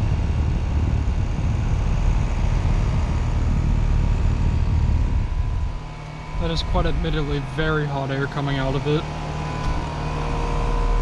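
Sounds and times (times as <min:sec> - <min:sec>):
air conditioner fan rumble: 0:00.0 - 0:11.0.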